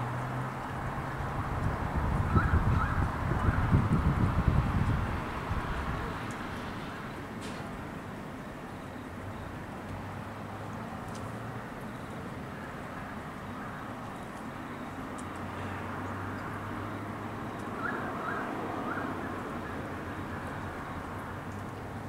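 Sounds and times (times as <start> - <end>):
distant traffic hum: 0.0 - 22.0.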